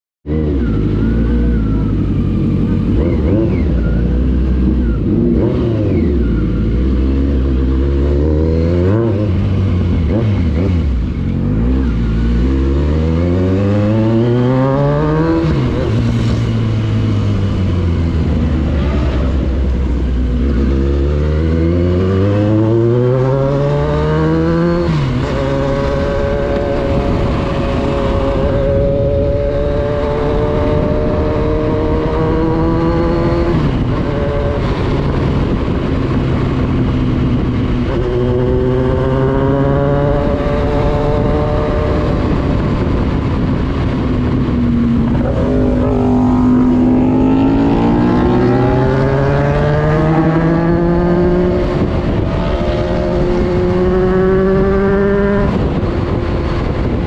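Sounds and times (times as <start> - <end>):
motorcycle engine accelerating: 0.2 - 57.0
wind and road rush: 0.2 - 57.0.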